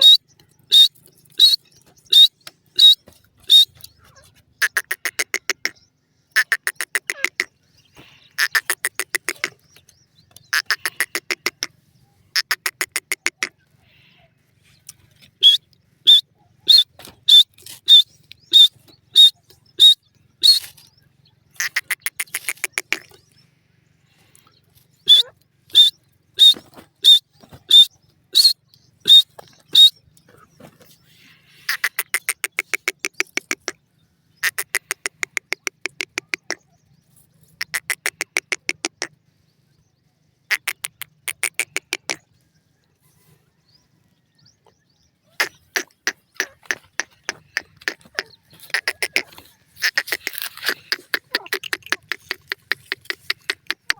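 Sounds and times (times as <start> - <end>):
bird sharp high calls: 0.0 - 39.2, 40.4 - 53.9.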